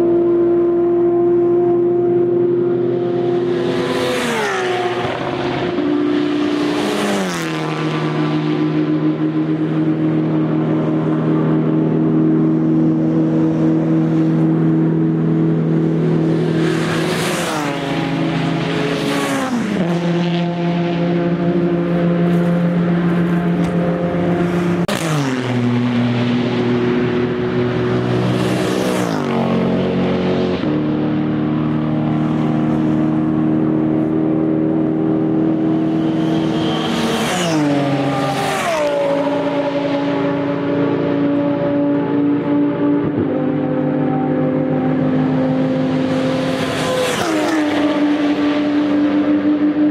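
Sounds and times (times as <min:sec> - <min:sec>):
race cars passing at full throttle: 0:00.0 - 0:49.9
steady engine drone: 0:00.0 - 0:49.9.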